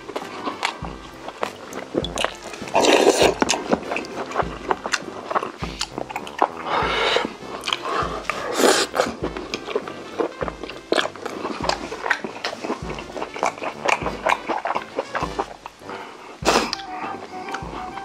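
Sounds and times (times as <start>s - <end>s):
slurping noodles: 0.0s - 17.8s
mouth clicks: 0.0s - 18.0s
wet chewing: 0.0s - 18.0s.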